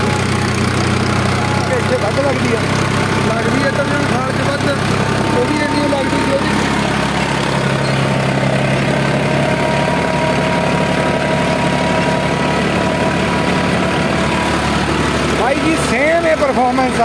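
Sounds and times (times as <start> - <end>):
tractor engine droning under load: 0.0 - 17.0.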